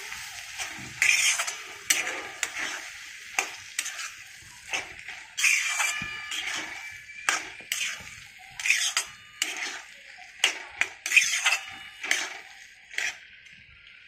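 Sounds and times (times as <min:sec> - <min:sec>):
metal spatula scraping iron pan: 0:00.0 - 0:13.2.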